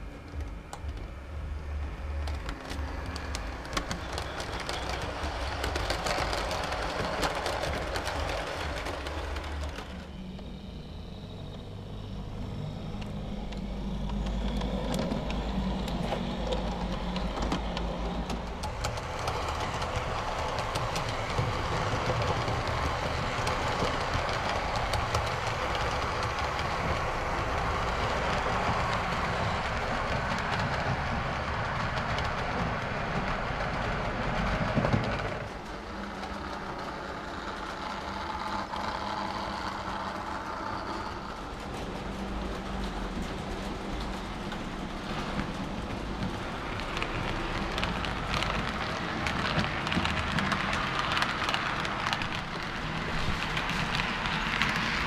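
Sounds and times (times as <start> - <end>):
low motor hum: 0.0 - 49.2
wheels clicking over rails: 0.0 - 55.0.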